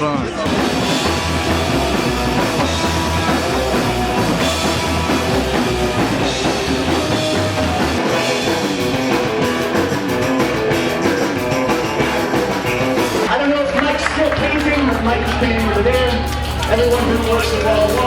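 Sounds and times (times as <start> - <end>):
punk rock music: 0.0 - 18.0.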